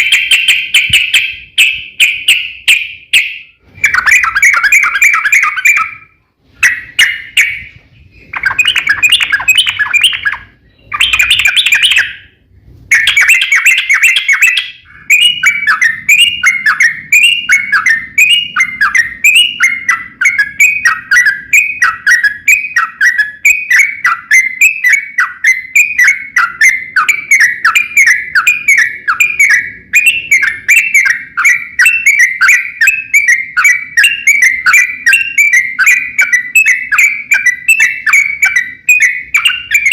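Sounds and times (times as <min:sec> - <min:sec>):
bulbul song: 0:00.0 - 0:39.9.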